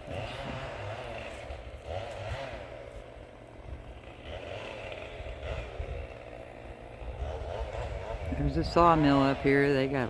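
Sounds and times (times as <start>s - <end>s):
distant machinery engine drone: 0.0s - 10.0s.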